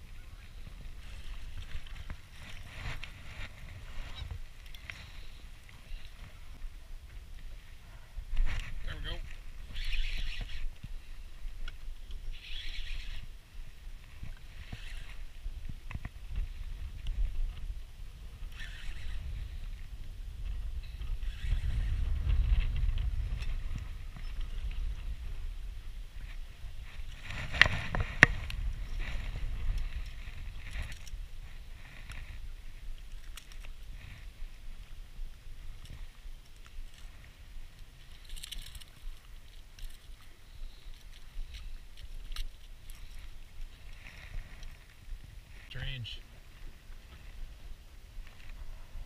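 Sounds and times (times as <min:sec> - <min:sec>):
fishing reel clicks and rustles: 0:00.0 - 0:06.8, 0:08.3 - 0:25.3, 0:26.2 - 0:46.0
wind rumble on microphone: 0:00.0 - 0:49.0.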